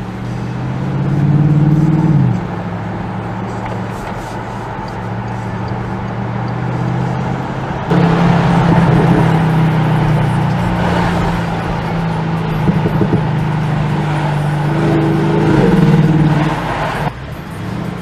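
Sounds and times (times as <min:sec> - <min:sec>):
car engine and exhaust accelerating: 0:00.0 - 0:18.0.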